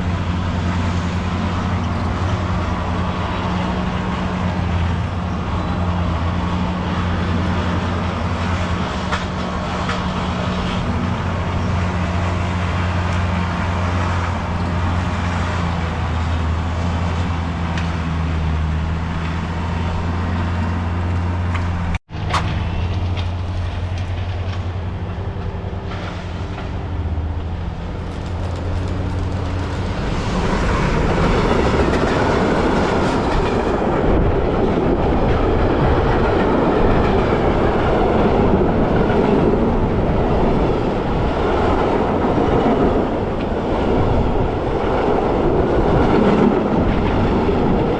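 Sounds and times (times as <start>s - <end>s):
train passing with low hum: 0.0s - 47.9s
wheel and rail clatter: 0.0s - 47.9s.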